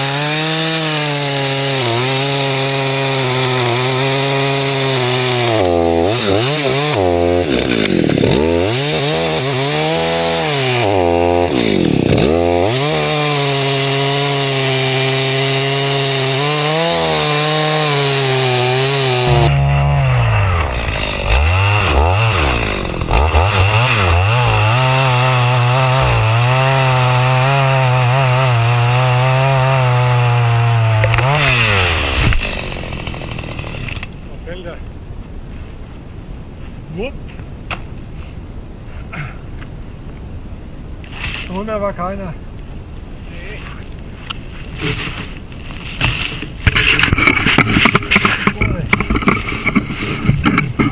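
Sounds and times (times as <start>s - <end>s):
chainsaw cutting tree trunk: 0.0s - 34.6s, 44.7s - 50.9s.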